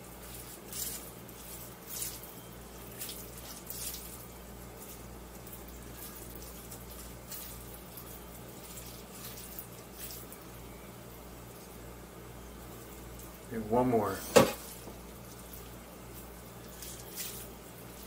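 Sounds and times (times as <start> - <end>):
sticky squelches of rice mixture: 0.0 - 18.0.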